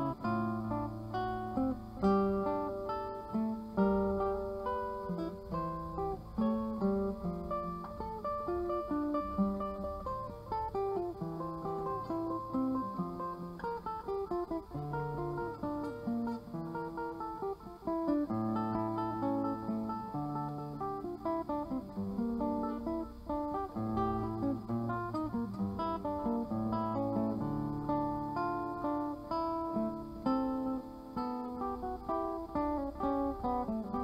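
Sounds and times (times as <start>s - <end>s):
classical guitar fingerstyle: 0.0s - 34.0s.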